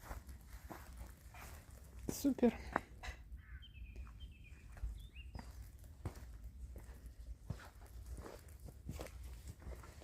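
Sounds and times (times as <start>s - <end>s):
soft footsteps: 0.0s - 3.2s, 3.9s - 10.0s.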